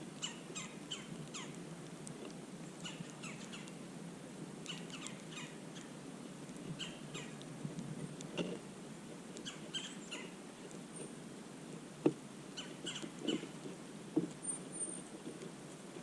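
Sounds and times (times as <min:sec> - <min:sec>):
small birds chirping: 0:00.1 - 0:03.8, 0:04.6 - 0:08.7, 0:09.3 - 0:11.9, 0:12.5 - 0:15.5.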